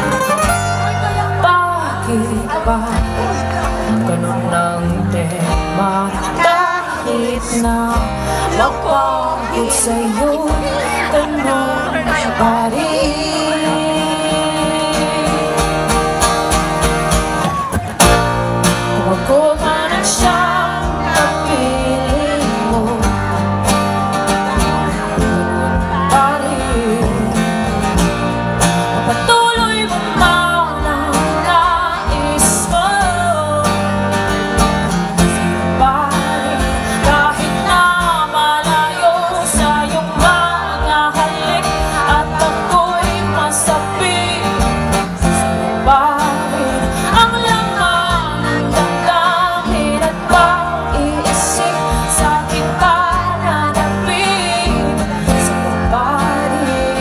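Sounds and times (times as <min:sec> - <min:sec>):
strummed acoustic guitar: 0:00.0 - 0:57.0
woman singing: 0:00.8 - 0:16.1, 0:18.7 - 0:57.0.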